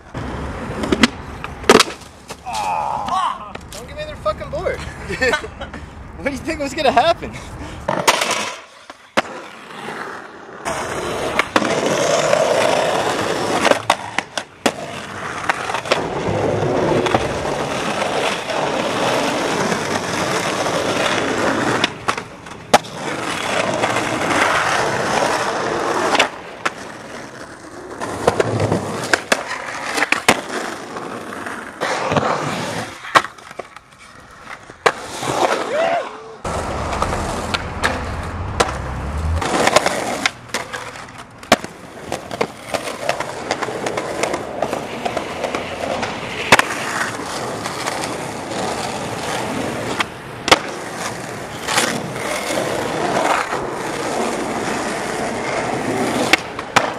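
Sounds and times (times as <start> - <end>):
skateboard wheels rolling on concrete: 0.0 - 56.9
skateboard clacks: 0.1 - 3.9, 7.8 - 35.8, 36.9 - 38.8, 39.4 - 56.9.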